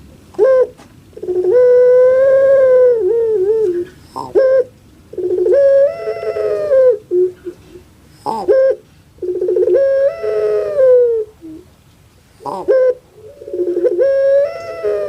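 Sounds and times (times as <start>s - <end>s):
dove cooing: 0.2s - 11.7s, 12.4s - 15.0s.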